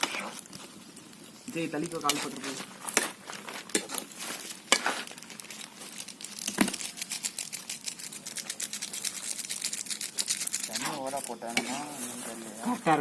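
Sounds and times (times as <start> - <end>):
noodles crackling in pot: 0.0 - 13.0.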